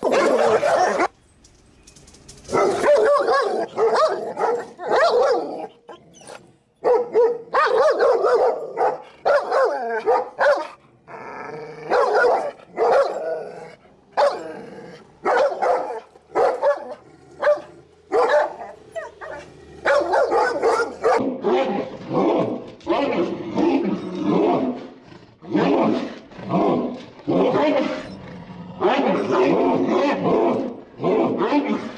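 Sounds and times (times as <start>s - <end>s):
dogs barking aggressively: 0.0s - 1.2s, 2.4s - 28.1s.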